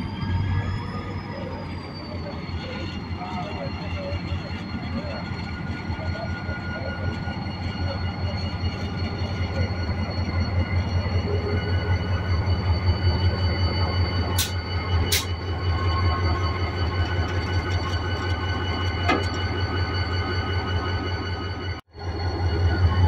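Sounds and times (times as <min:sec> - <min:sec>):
diesel locomotive engine drone: 0:00.0 - 0:23.0
high-pitched tones: 0:00.0 - 0:23.0.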